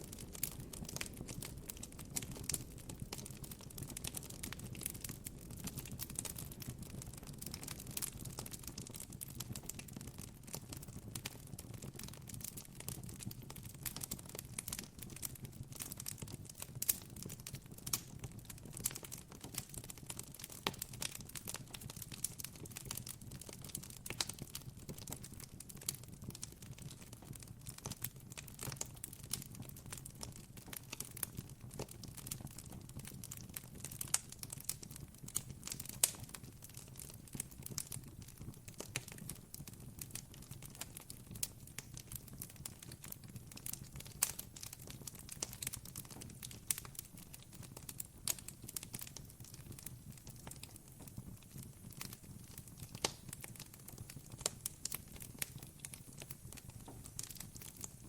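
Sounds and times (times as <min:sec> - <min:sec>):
campfire crackling: 0:00.0 - 0:09.0, 0:10.5 - 0:58.0.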